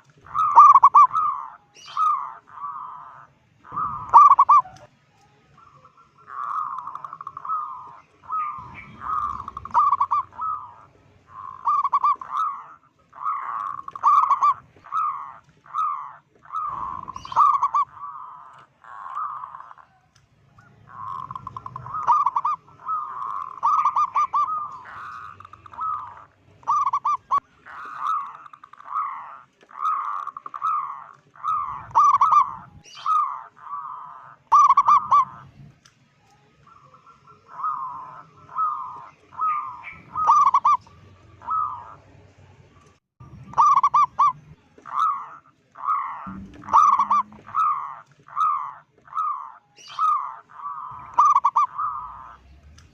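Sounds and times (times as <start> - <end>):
dove cooing in trilled phrases: 0.0 - 4.9, 5.5 - 35.6, 36.7 - 42.0, 43.3 - 52.4.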